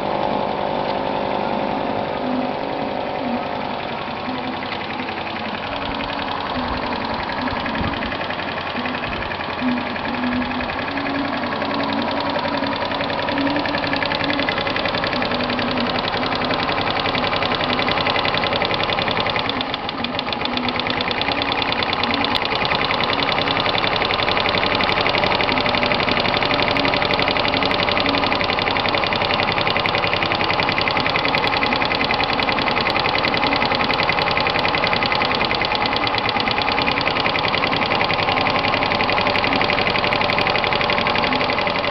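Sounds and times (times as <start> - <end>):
moped engine running: 0.0 - 41.9.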